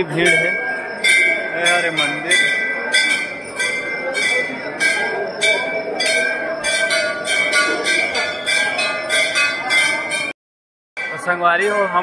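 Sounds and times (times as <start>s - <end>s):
crowd murmur: 0.0s - 10.3s
temple bells ringing: 0.0s - 10.4s, 11.0s - 12.0s.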